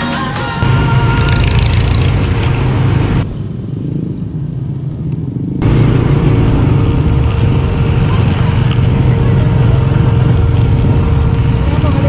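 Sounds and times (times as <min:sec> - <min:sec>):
motorcycle engine running: 0:00.6 - 0:12.0
road and wind noise: 0:00.6 - 0:12.0.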